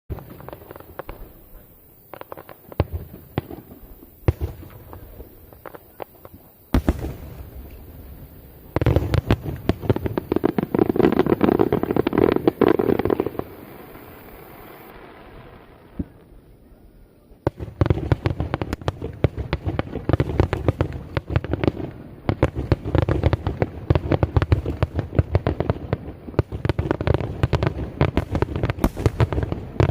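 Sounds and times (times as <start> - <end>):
fireworks bursts and crackles: 0.1 - 29.9.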